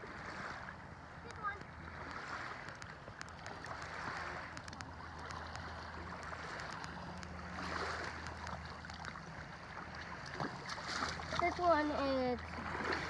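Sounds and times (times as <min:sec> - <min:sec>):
low steady hum: 0:00.0 - 0:13.0
water sloshing and splashing: 0:00.0 - 0:13.0.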